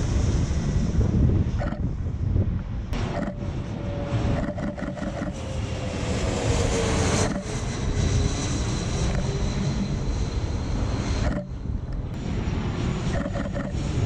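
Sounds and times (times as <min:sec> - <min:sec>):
jet airliner passing overhead: 0:00.0 - 0:14.0.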